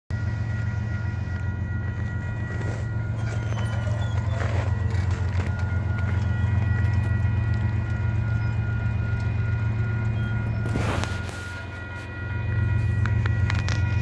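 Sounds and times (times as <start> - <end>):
crossing warning bell ringing: 0.1 - 14.0.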